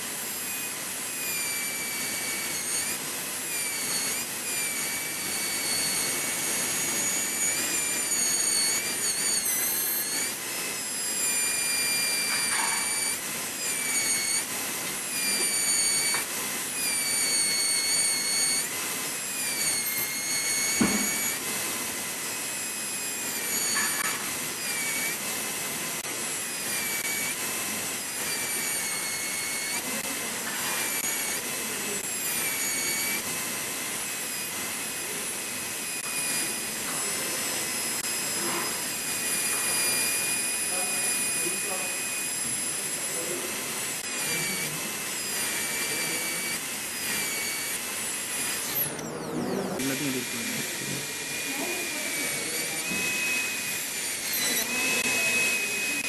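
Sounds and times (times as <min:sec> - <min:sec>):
dental drill whine: 0:00.0 - 0:56.0.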